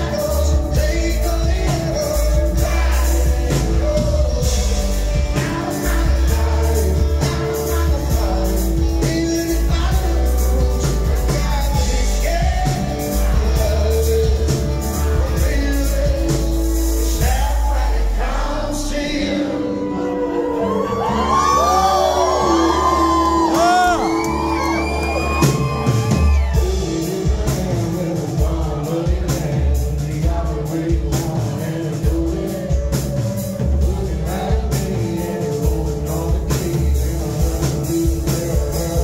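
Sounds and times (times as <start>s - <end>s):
drums and cymbals: 0.0s - 19.3s, 21.2s - 39.0s
country-rock band playing: 0.0s - 39.0s.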